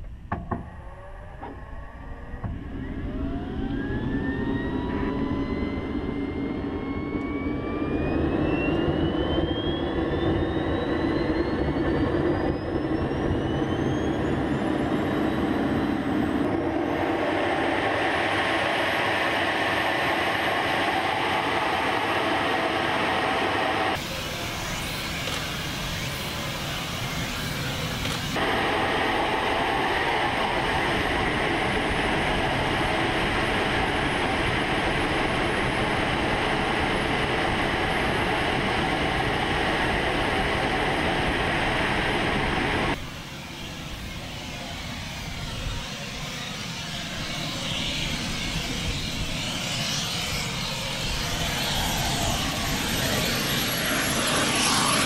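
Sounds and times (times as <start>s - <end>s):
jet engine roar and whine: 0.0s - 55.0s
turbojet engine spooling up: 0.7s - 55.0s.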